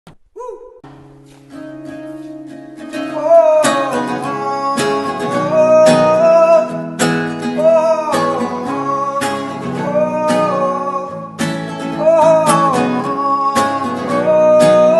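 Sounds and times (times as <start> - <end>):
guitar chords: 0.8 - 14.9
sung melody: 0.8 - 14.9.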